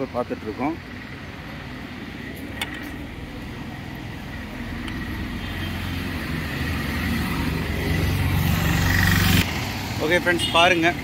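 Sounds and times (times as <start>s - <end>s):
motor scooters on road: 0.0s - 11.0s.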